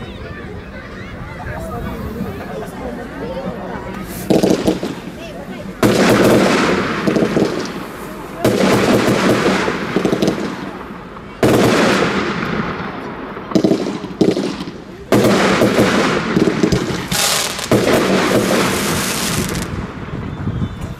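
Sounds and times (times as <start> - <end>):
firework bangs: 4.0 - 20.9.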